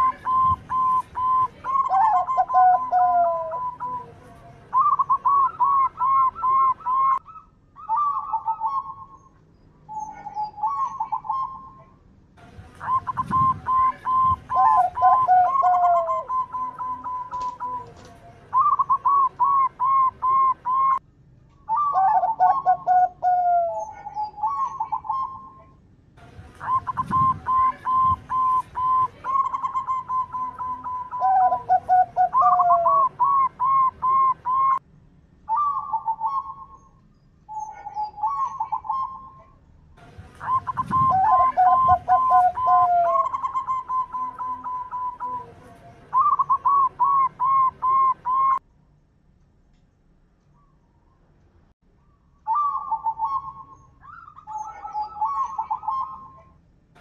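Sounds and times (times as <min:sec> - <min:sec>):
dove cooing: 0:00.0 - 0:09.3, 0:09.9 - 0:11.9, 0:12.8 - 0:21.0, 0:21.7 - 0:25.7, 0:26.6 - 0:34.8, 0:35.5 - 0:36.8, 0:37.5 - 0:39.6, 0:40.3 - 0:48.6, 0:52.5 - 0:56.6.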